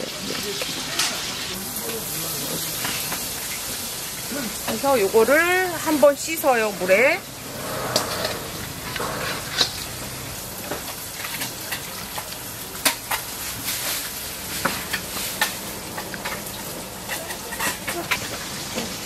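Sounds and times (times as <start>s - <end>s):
water boiling in a pot: 0.0s - 19.0s.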